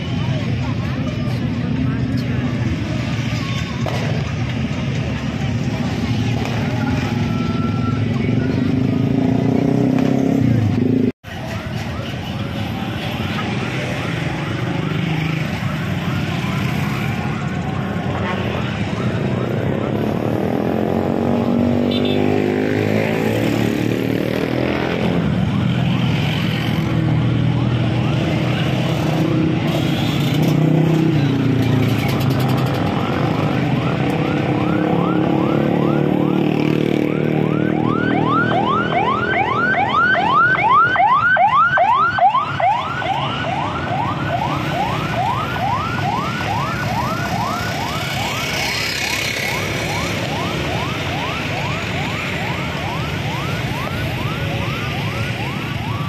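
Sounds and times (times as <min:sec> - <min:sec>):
street traffic engines: 0:00.0 - 0:56.0
electronic siren yelping: 0:05.8 - 0:09.8, 0:13.4 - 0:31.1, 0:31.8 - 0:56.0.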